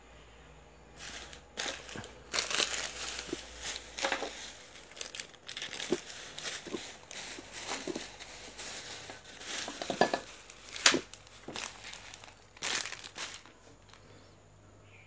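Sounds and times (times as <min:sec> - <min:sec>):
faint low hum: 0:00.0 - 0:15.0
scuffle: 0:01.0 - 0:14.0
rustling handling noise: 0:01.0 - 0:14.3.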